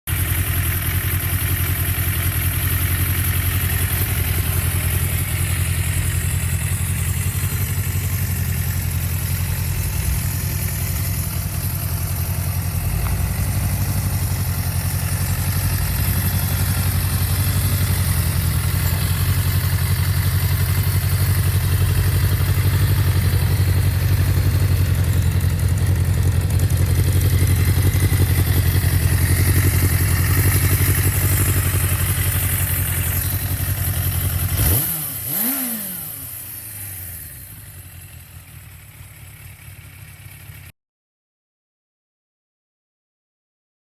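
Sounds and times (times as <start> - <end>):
motorcycle engine idling: 0.1 - 40.7.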